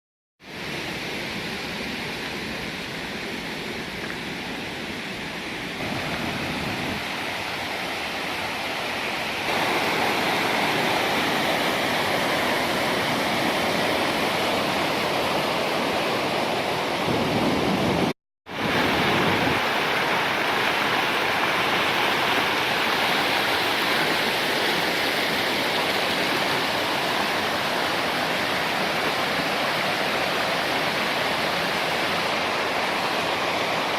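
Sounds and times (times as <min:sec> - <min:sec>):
waterfall rushing: 0:00.5 - 0:33.9.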